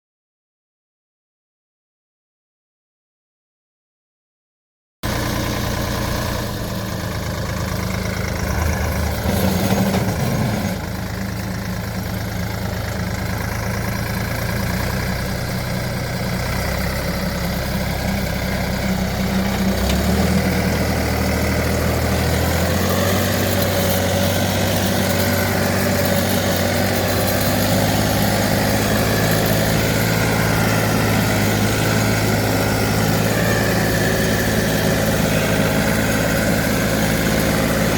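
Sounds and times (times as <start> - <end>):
tractor diesel engine running: 5.0 - 37.9.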